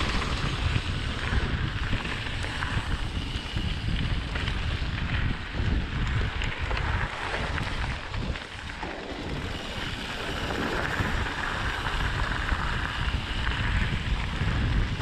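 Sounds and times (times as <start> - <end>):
tyres rolling on gravel: 0.0 - 15.0
wind buffeting microphone: 0.0 - 15.0.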